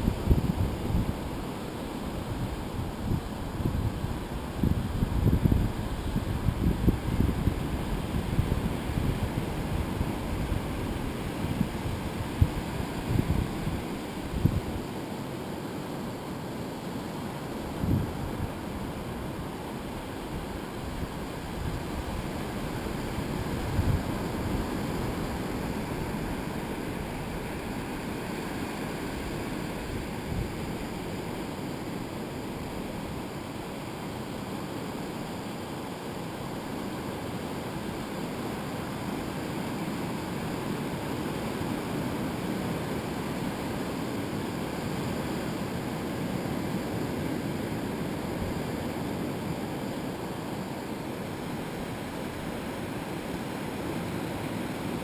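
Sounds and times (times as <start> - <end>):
surf breaking on beach: 0.0 - 55.0.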